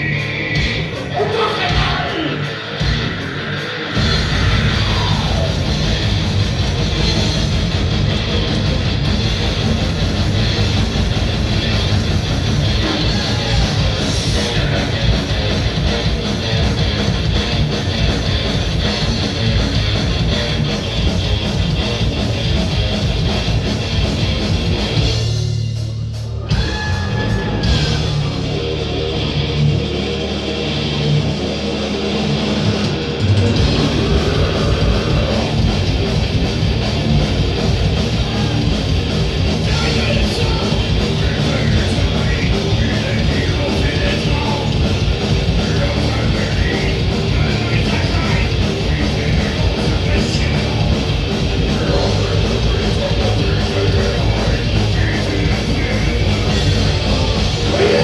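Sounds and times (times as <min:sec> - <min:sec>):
electric guitar: 0:00.0 - 0:58.0
live rock band playing: 0:00.0 - 0:58.0.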